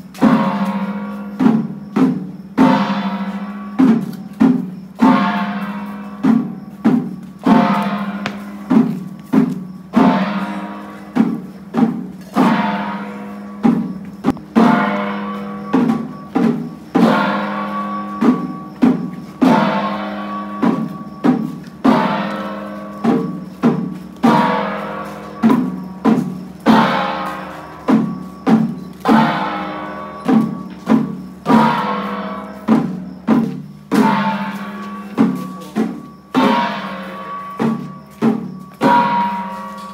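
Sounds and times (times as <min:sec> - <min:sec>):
drums beaten: 0:00.0 - 0:39.9
gongs ringing: 0:04.9 - 0:09.0, 0:09.8 - 0:11.6, 0:12.3 - 0:33.2, 0:33.9 - 0:39.9.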